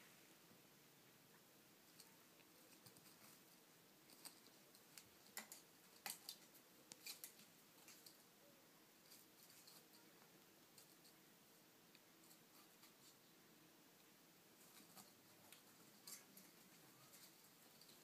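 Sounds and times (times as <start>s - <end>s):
faint clicks and scratches: 1.3s - 18.0s.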